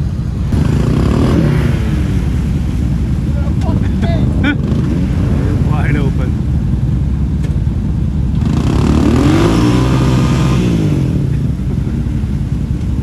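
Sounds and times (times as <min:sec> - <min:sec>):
engine revving: 0:00.0 - 0:06.3, 0:08.3 - 0:13.0.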